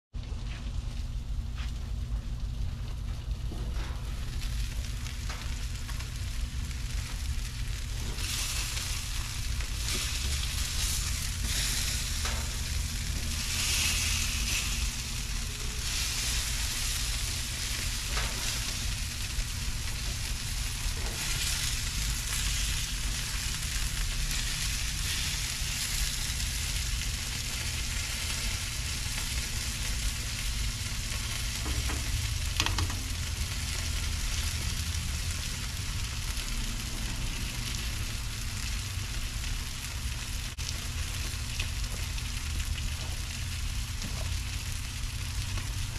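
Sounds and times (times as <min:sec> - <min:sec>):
chicken sizzling on grill: 0:00.2 - 0:45.9
low rumble: 0:00.2 - 0:45.9.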